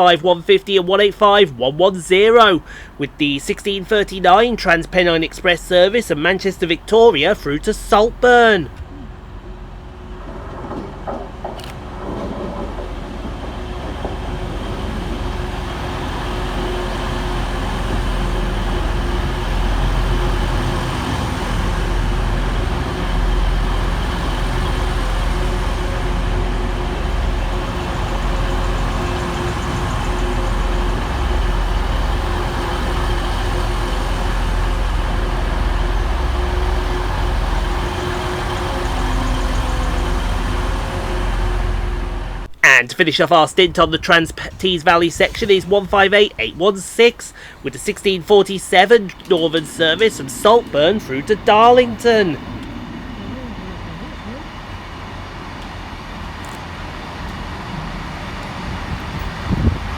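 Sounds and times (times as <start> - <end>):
diesel train drone: 0.0 - 59.9.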